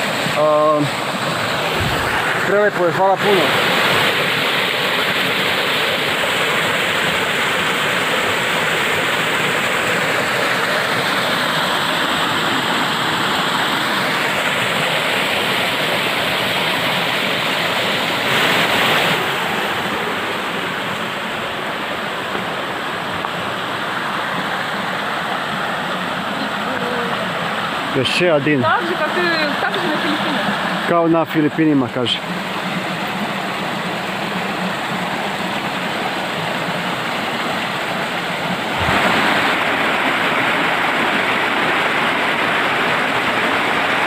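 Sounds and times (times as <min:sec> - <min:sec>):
waterfall rushing into pool: 0:00.0 - 0:44.0.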